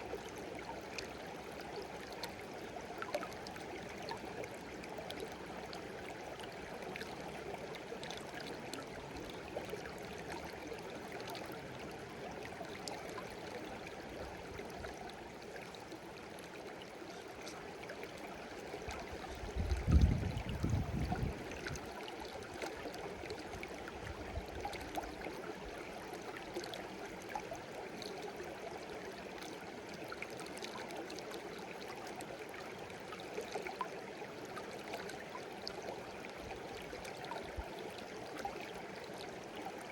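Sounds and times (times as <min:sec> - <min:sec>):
babbling brook: 0:00.0 - 0:39.9
water drips and splashes: 0:00.0 - 0:39.9.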